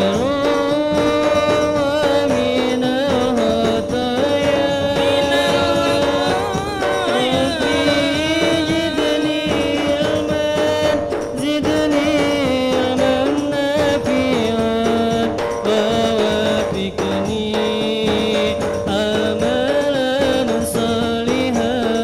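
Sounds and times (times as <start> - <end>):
hand drums beating: 0.0 - 22.0
man singing chant over loudspeaker: 0.0 - 22.0.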